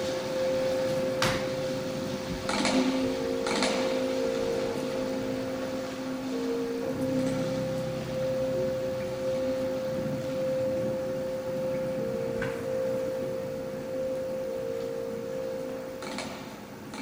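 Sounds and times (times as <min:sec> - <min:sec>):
electronic drone of two tones: 0:00.0 - 0:16.5.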